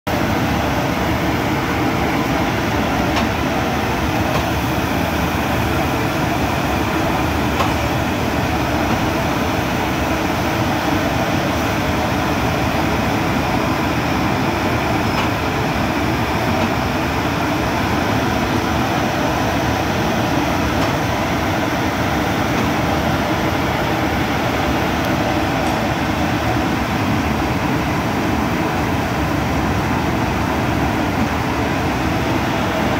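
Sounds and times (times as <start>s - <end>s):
running machinery: 0.1s - 32.9s.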